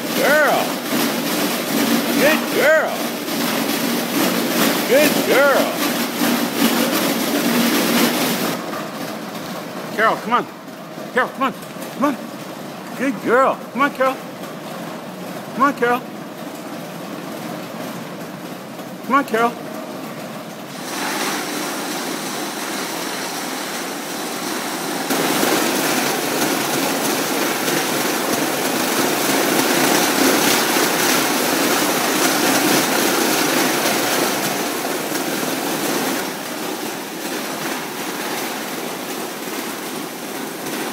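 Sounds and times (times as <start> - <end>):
treadmill belt running: 0.0 - 40.9.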